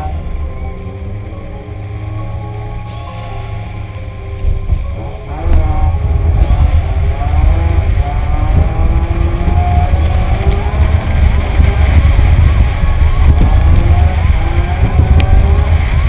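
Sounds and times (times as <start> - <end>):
car engine revving: 0.0 - 16.0
heavy low rumble: 0.0 - 16.0.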